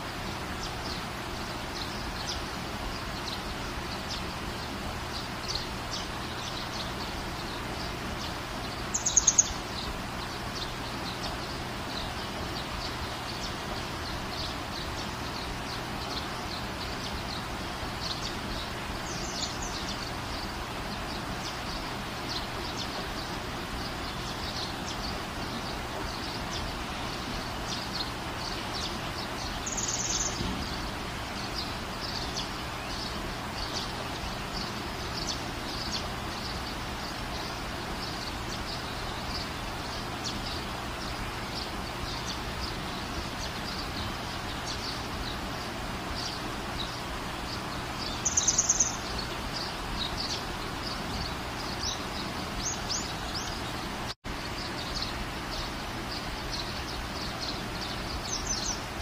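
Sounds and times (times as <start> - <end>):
birds chirping: 0.0 - 59.0
steady background hiss: 0.0 - 59.0.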